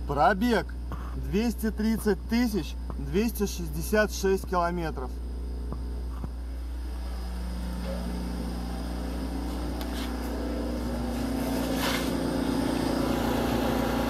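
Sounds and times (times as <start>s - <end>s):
car engine running steadily: 0.0s - 14.0s.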